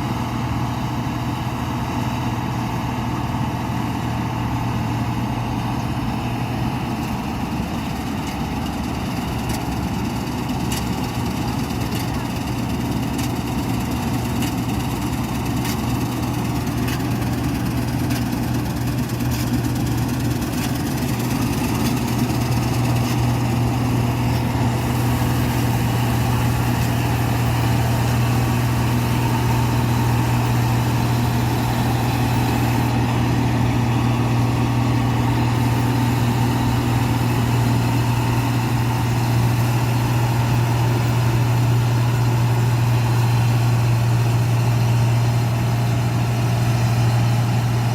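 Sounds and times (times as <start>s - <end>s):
combine harvester engine humming: 0.0s - 47.9s.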